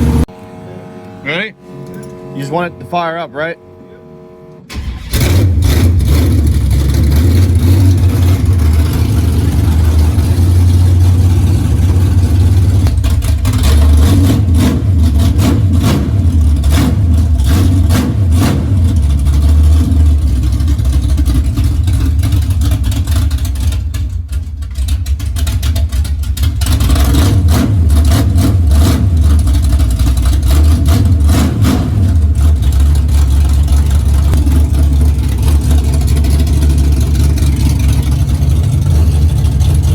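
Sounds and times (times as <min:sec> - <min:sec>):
loud rough vee-eight engine: 0:00.0 - 0:39.9.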